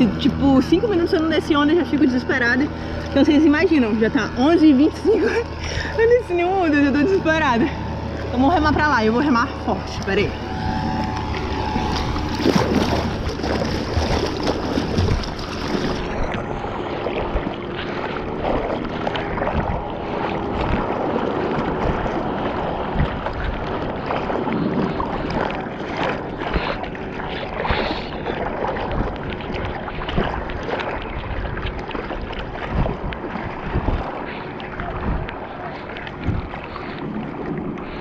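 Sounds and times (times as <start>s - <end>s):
arm strokes dipping in water: 0.0s - 38.0s
sea water splashing: 0.0s - 38.0s.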